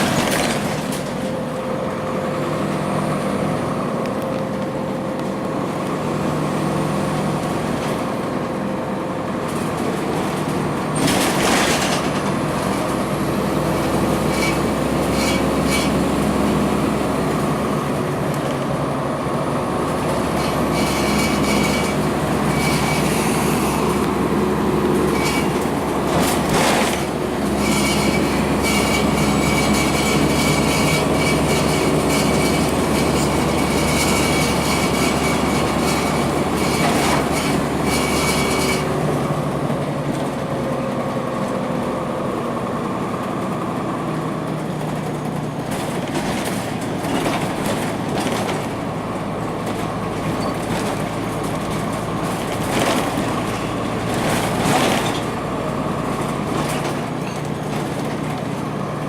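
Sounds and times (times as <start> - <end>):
diesel engine running: 0.0 - 59.0
road noise: 0.0 - 59.0.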